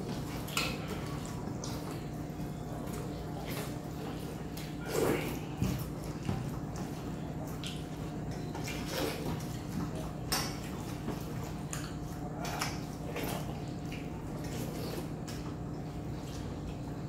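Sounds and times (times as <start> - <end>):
chewing: 0.0 - 17.0
steady low hum: 0.0 - 17.0
wet squishing of food: 0.0 - 17.0.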